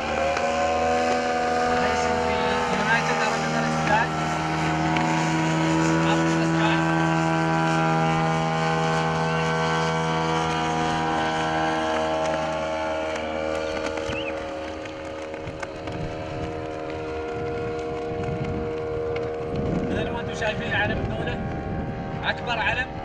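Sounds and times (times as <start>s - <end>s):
model plane engine drone: 0.0s - 23.0s
wind rumbling on microphone: 0.0s - 23.0s.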